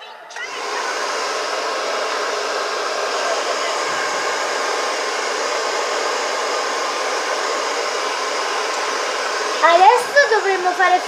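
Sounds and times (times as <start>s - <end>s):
electric blower whooshing: 0.4s - 11.0s.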